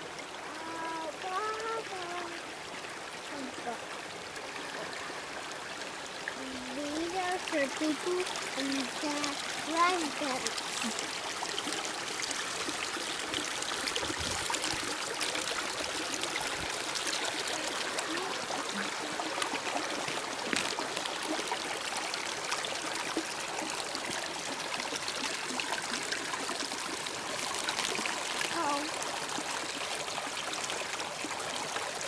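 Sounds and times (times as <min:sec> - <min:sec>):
creek trickling over stones: 0:00.0 - 0:32.0.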